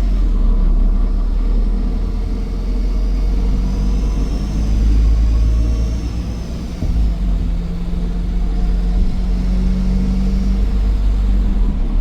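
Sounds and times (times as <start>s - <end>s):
diesel bus engine rumble: 0.0s - 12.0s
high turbo whine: 0.0s - 12.0s.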